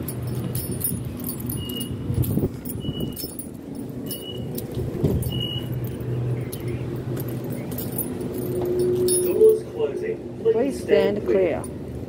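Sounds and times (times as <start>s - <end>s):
keys jangling: 0.0s - 9.7s
train motors and air-conditioning hum: 0.0s - 12.0s.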